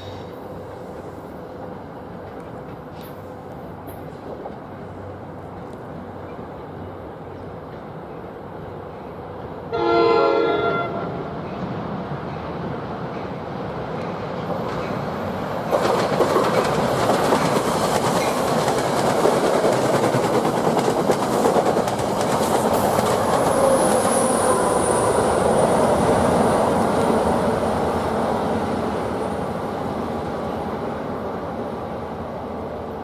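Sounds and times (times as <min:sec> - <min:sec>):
train passing with clickety-clack: 0:00.0 - 0:33.0.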